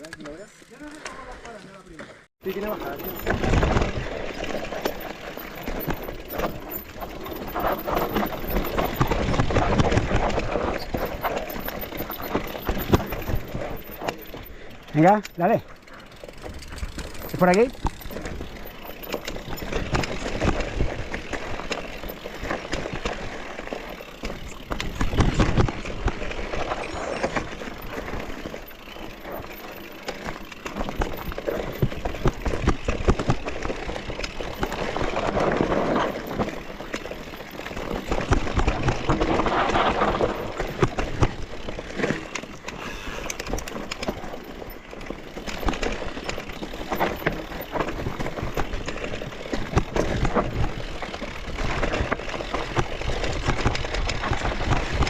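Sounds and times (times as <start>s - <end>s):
bike rattling over ground: 0.0s - 55.0s.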